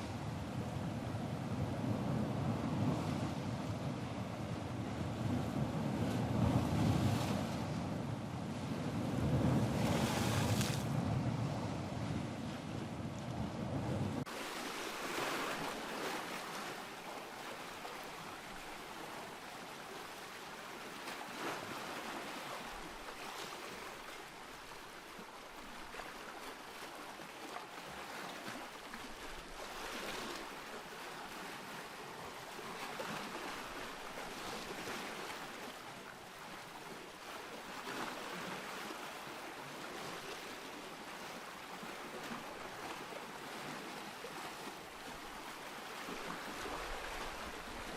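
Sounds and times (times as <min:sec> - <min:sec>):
ocean waves washing in: 0:00.0 - 0:47.9.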